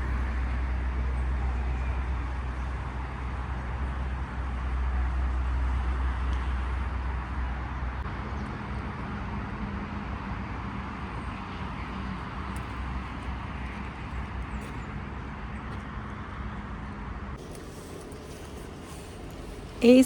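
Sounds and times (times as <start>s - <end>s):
passing vehicle engine rumble: 0.0s - 20.0s
road noise hiss: 0.0s - 20.0s.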